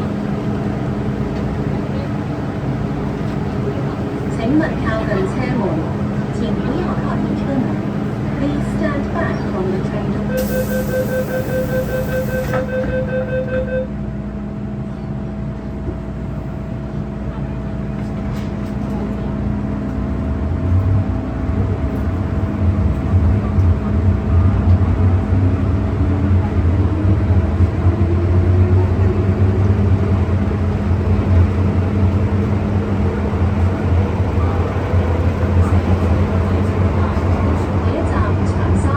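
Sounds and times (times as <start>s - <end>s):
train steady hum: 0.0s - 38.9s.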